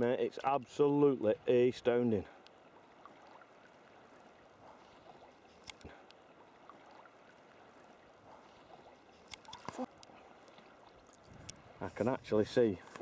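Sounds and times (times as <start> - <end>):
water trickling and lapping: 0.0 - 13.0
paddle splashing water: 0.1 - 13.0.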